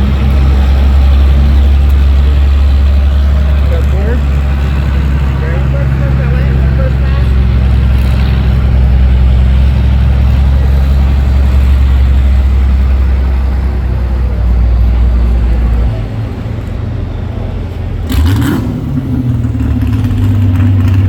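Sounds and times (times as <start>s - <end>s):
big vehicle engine running: 0.0s - 21.0s.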